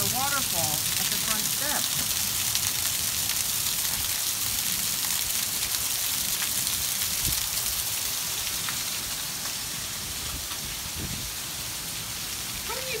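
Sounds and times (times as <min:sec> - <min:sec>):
torrential rain: 0:00.0 - 0:13.0.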